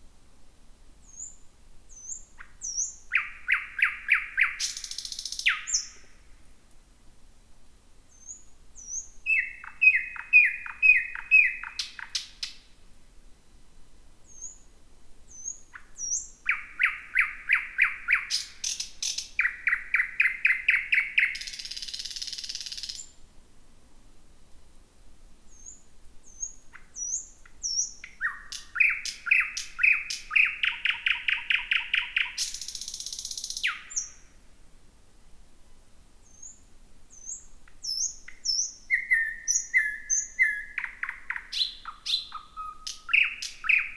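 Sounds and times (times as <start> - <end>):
thrush nightingale singing: 1.0 - 6.2, 8.1 - 12.7, 14.2 - 23.2, 25.5 - 34.4, 36.2 - 43.9.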